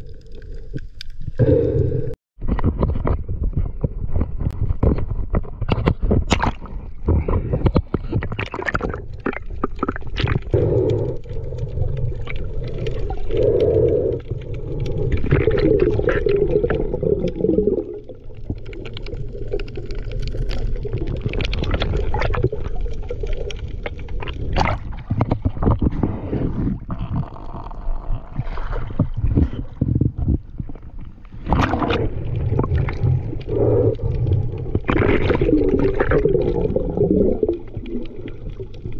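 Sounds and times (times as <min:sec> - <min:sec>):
water gurgling and sloshing: 0:00.0 - 0:38.9.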